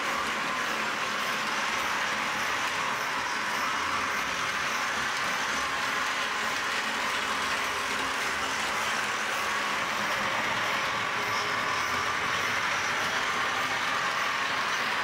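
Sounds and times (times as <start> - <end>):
model train motor whirring: 0.0 - 15.0
wheels rolling on rails: 0.0 - 15.0.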